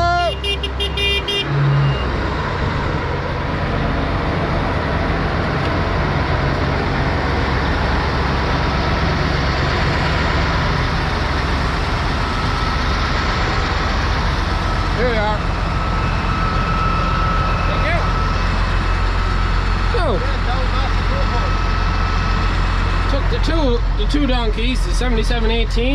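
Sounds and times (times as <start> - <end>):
farm machinery engines droning: 0.0 - 25.9.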